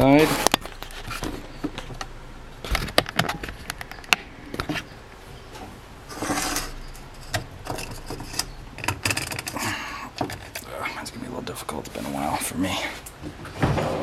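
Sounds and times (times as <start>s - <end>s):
scraping rustle: 0.0s - 14.0s.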